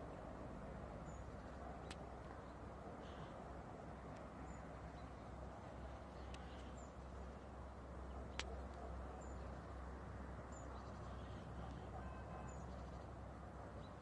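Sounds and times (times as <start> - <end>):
steady low outdoor noise: 0.0 - 14.0.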